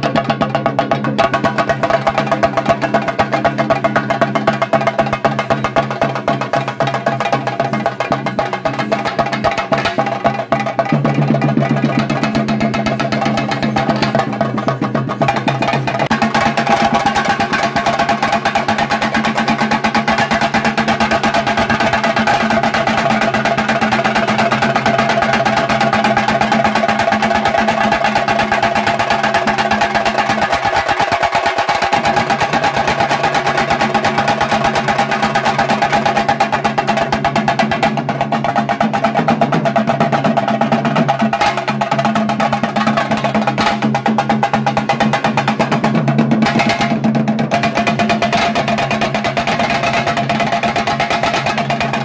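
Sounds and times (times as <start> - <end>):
drum ensemble beating fast: 0.0 - 52.0.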